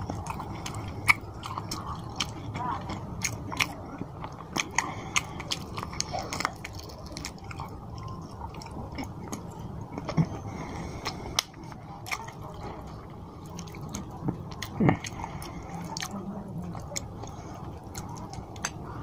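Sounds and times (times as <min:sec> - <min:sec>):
lip and teeth clicks: 0:00.0 - 0:12.7, 0:13.5 - 0:18.9
wet chewing: 0:00.0 - 0:19.0.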